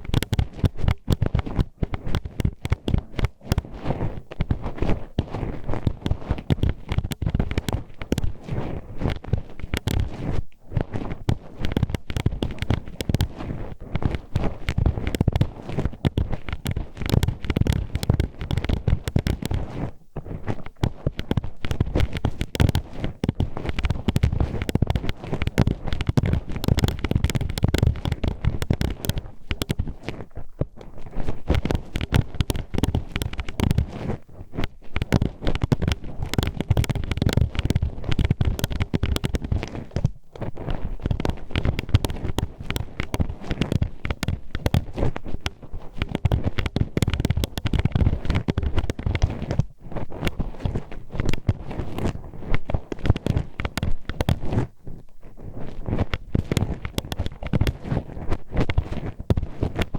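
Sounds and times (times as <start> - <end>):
hairpins scraping on microphone: 0.0 - 59.9.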